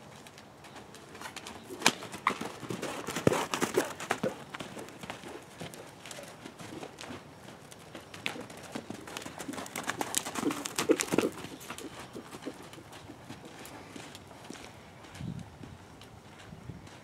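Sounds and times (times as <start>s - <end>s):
hooves on loose dirt: 0.0s - 17.0s.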